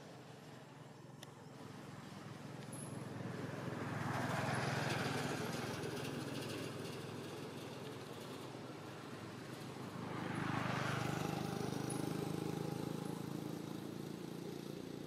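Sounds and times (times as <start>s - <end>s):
vehicle passing by: 1.5s - 15.0s.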